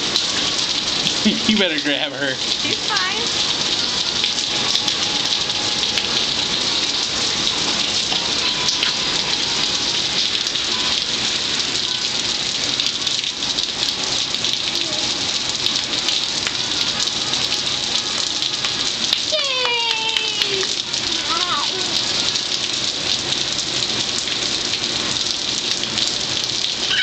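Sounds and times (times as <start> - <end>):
hiss of falling rain: 0.0 - 27.0.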